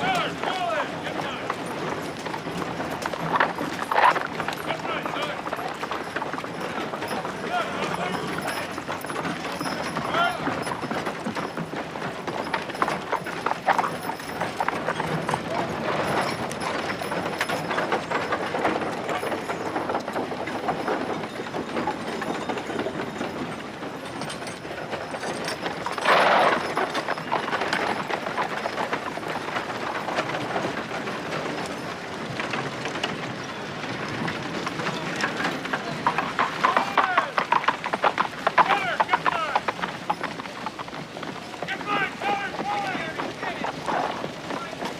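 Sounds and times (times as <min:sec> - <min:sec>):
horse-drawn carriages rolling: 0:00.0 - 0:44.9
horses' hooves clip-clopping: 0:00.0 - 0:44.9.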